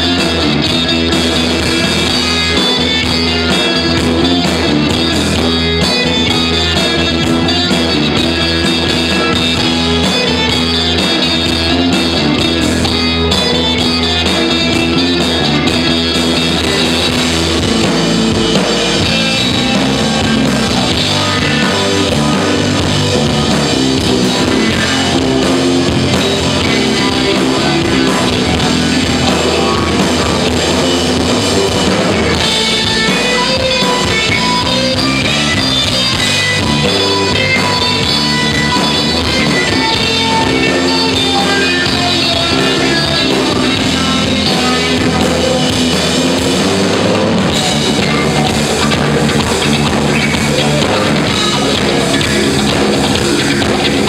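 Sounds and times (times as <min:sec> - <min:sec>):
amplified electric guitars: 0:00.0 - 0:54.0
drum kit: 0:00.0 - 0:54.0.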